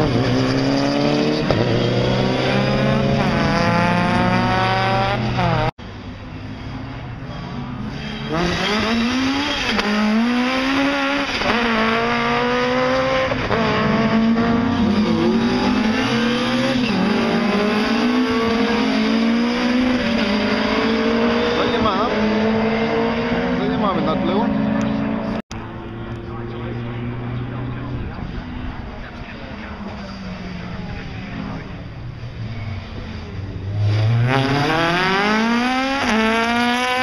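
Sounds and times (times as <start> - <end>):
rally car engine revving: 0.0 - 5.7, 7.9 - 37.0.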